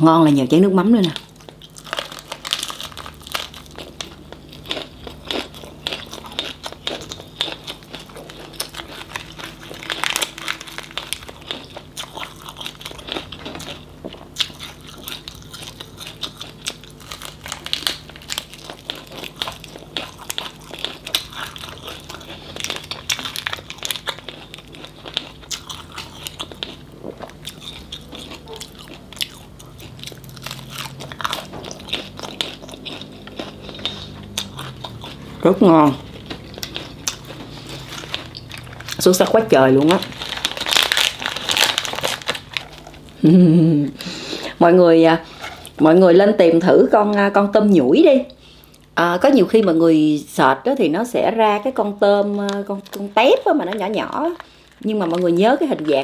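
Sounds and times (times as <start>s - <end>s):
crunchy chewing: 0.9s - 43.3s, 45.2s - 45.8s, 52.2s - 56.0s.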